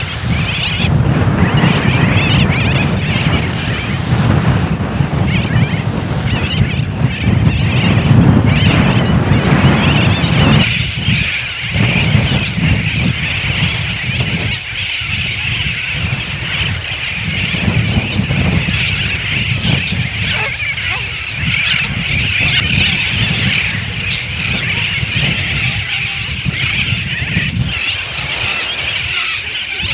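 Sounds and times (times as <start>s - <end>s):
seabirds calling harshly: 0.0s - 29.9s
surf: 0.0s - 29.9s
wind: 0.0s - 29.9s.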